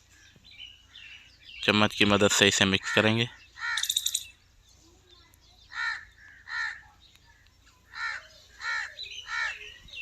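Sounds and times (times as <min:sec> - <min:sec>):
bird calling: 0:00.0 - 0:04.4, 0:05.6 - 0:10.0.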